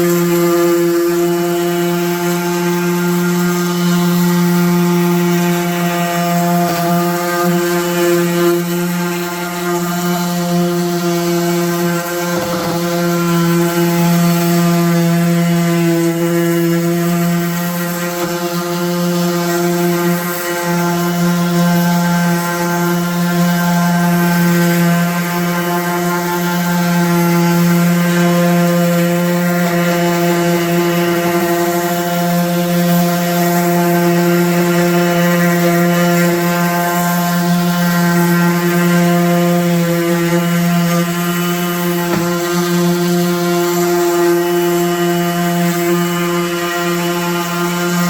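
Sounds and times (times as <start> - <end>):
electric sander on wood: 0.0 - 48.0.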